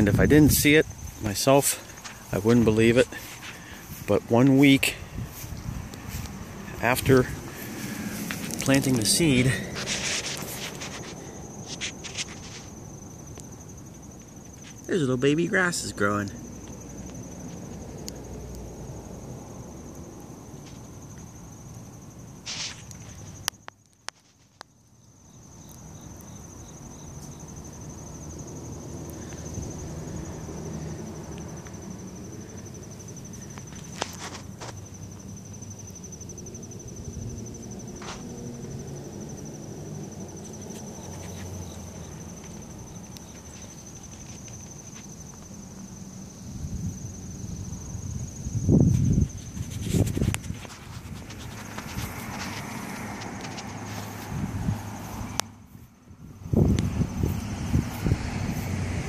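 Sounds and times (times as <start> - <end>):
wind rumble: 0.0 - 14.8, 16.3 - 22.4, 27.5 - 59.0
insects trilling: 0.0 - 59.0.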